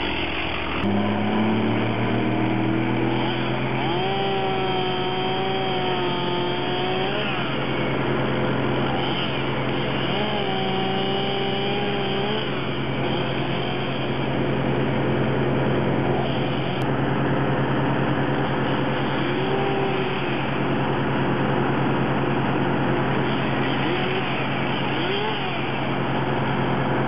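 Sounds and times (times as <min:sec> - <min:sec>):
machinery engine running: 0:00.0 - 0:27.0.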